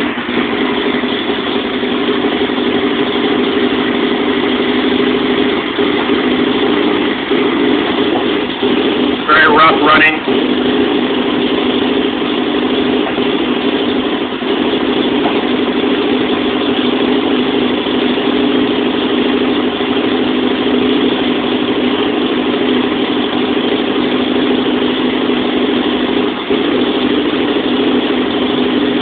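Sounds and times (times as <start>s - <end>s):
motorcycle engine idling roughly: 0.0s - 29.0s.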